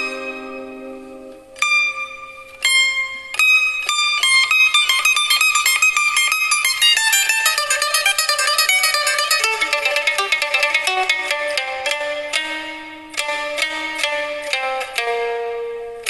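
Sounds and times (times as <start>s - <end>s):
plucked string instrument music: 0.0s - 16.0s.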